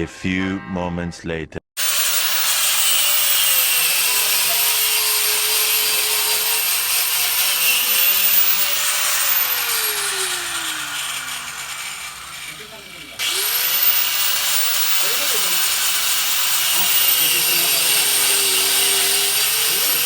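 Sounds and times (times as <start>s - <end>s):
power tool running: 1.8s - 20.0s.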